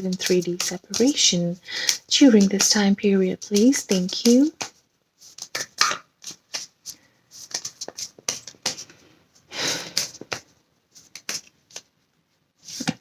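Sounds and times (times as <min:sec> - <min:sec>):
cards being shuffled: 0:00.0 - 0:11.9, 0:12.6 - 0:13.0.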